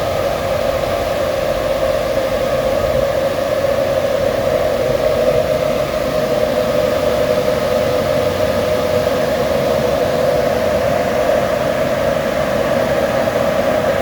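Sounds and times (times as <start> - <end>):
cooling fans whirring: 0.0 - 14.0.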